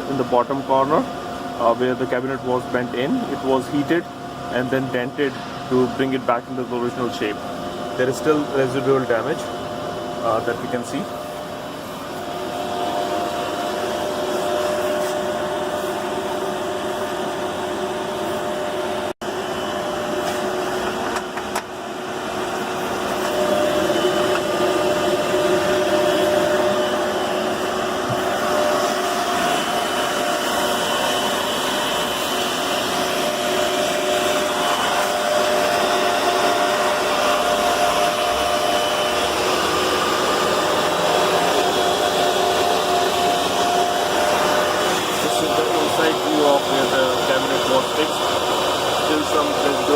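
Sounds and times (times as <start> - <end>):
machinery whirring hum: 0.0 - 49.9.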